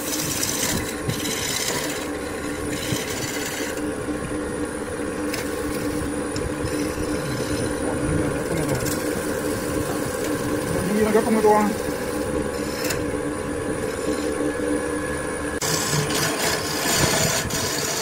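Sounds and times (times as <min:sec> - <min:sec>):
chisel scraping spinning wood: 0:00.0 - 0:14.9, 0:15.6 - 0:18.0
lathe motor humming: 0:00.0 - 0:18.0.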